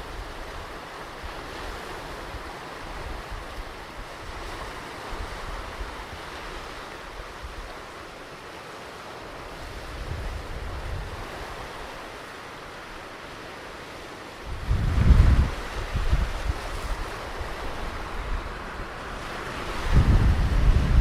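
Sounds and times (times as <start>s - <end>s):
wind on microphone: 0.0s - 8.0s, 9.4s - 12.0s, 14.4s - 21.0s
ocean surf on beach: 0.0s - 21.0s.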